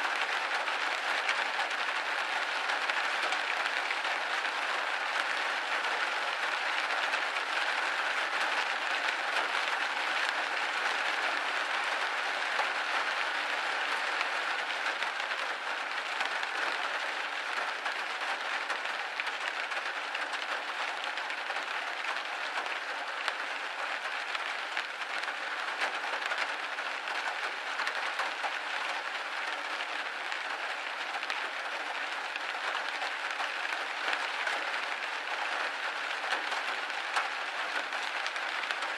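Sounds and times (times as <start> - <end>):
rain hitting a window: 0.0 - 38.9.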